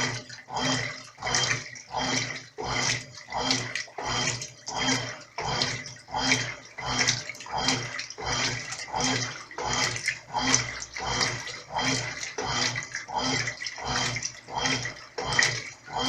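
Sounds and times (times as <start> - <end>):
washing machine agitating: 0.0 - 16.0.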